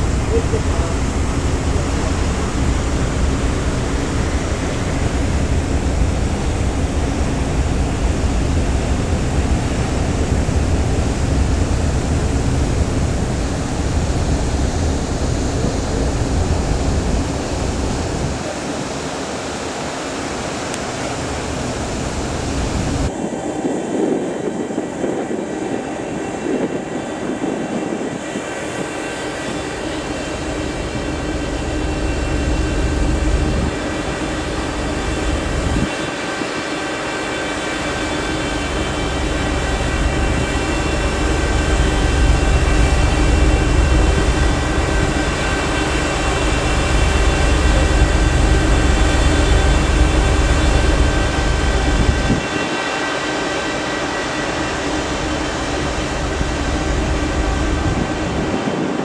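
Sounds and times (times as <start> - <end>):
ferry engine rumble: 0.0 - 59.0.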